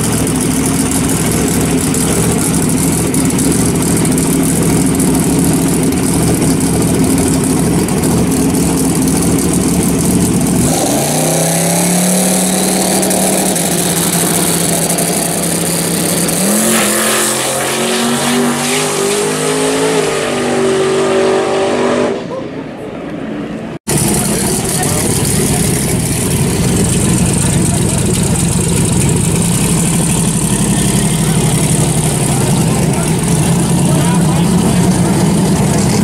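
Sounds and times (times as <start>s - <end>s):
tire spin noise: 0.0s - 20.7s, 23.9s - 36.0s
car engine revving: 0.0s - 22.4s, 23.8s - 36.0s.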